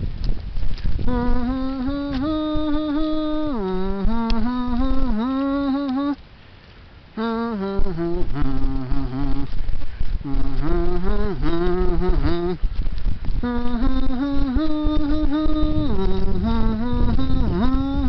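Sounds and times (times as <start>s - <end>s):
wind rumble on microphone: 0.0s - 18.0s
person humming a slow tune: 1.0s - 6.2s, 7.1s - 18.0s.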